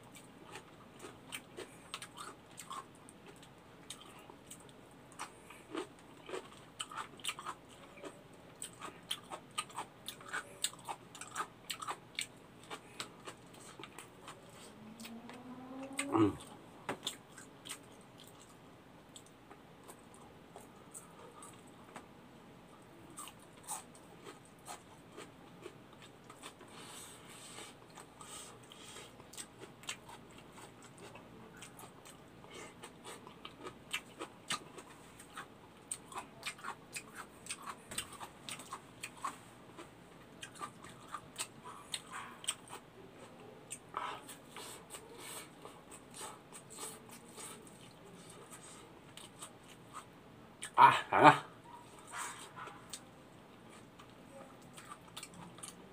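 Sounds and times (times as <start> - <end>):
chewing with wet mouth smacks: 0.1 - 22.0, 27.9 - 50.8, 53.7 - 55.8.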